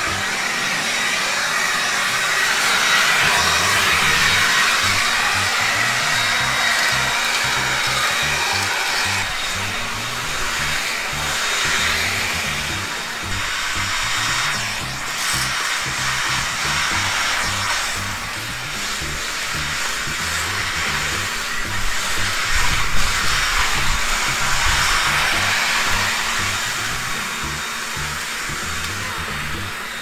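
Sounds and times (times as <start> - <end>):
background music with bass: 0.0 - 0.4, 2.8 - 30.0
leaf blower running: 0.0 - 30.0.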